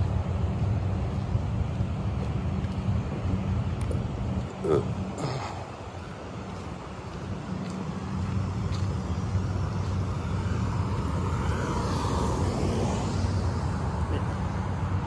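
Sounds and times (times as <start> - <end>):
car passing on wet asphalt: 0.0 - 15.0
steady low rumble: 0.0 - 15.0.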